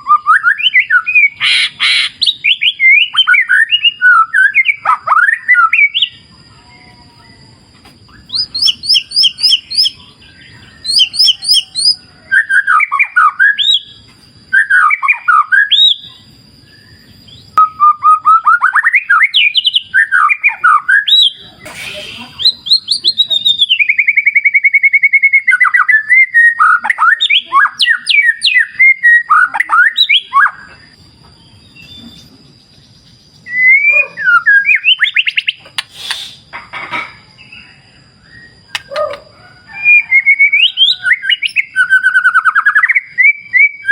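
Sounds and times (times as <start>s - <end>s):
bird singing whistles and trills: 0.0s - 36.5s, 37.4s - 43.9s.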